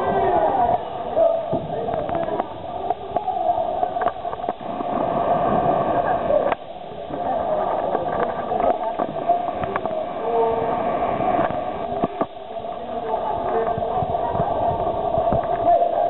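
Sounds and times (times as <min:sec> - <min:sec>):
crowd voices and shouts: 0:00.0 - 0:16.0.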